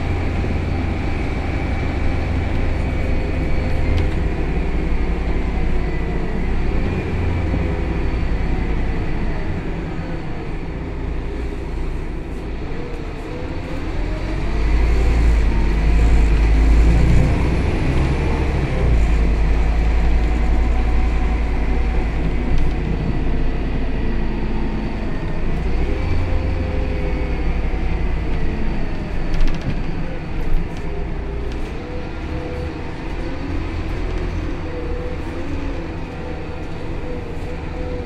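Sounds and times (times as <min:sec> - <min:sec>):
bus diesel engine drone: 0:00.0 - 0:38.0.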